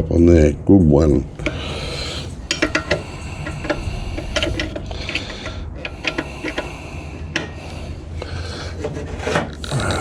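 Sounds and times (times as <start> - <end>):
steady low hum: 0.0 - 10.0
metal scraping: 1.3 - 9.7.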